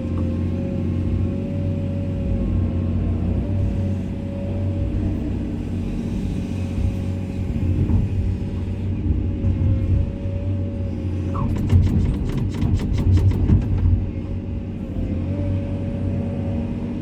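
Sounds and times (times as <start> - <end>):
excavator diesel engine rumble: 0.0 - 17.0.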